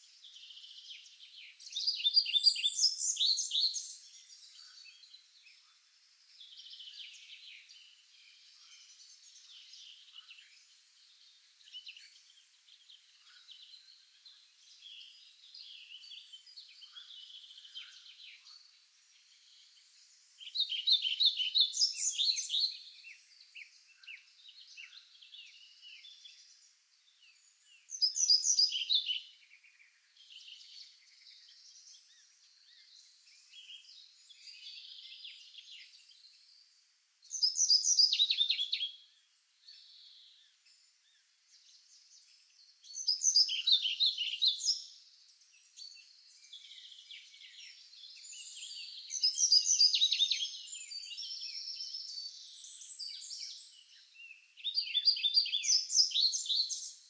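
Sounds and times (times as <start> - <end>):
bird singing loud song phrase: 0.0 - 57.0
birds chirping softly: 0.0 - 57.0.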